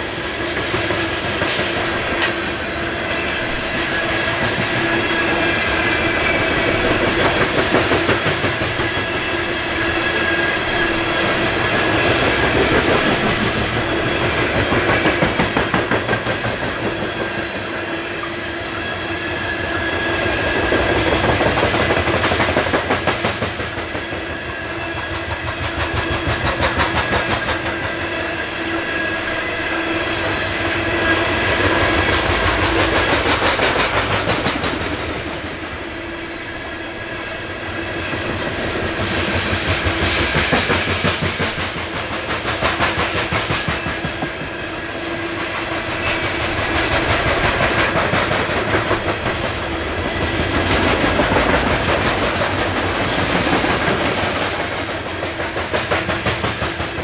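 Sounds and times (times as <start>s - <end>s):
train rumble: 0.0s - 57.0s
train wheels clickety-clack: 0.0s - 57.0s.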